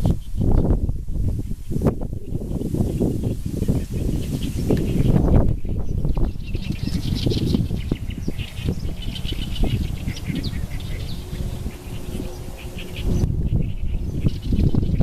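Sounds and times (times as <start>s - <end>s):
small birds chirping: 0.0s - 15.0s
wind blowing through reeds: 0.0s - 15.0s.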